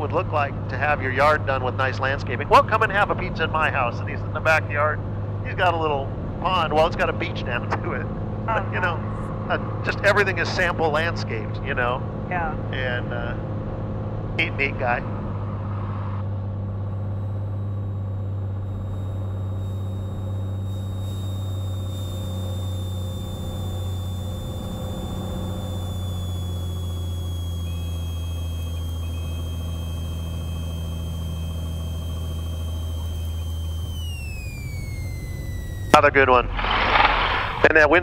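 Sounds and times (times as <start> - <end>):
propeller aircraft engine droning: 0.0 - 38.0.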